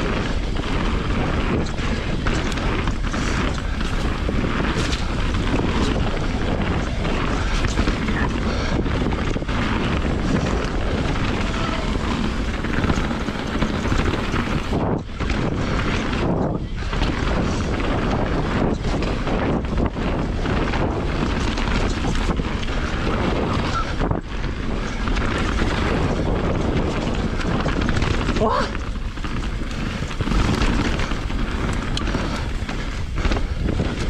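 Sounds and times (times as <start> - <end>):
bike knocking and rattling: 0.0 - 34.0
wind buffeting microphone: 0.0 - 34.0.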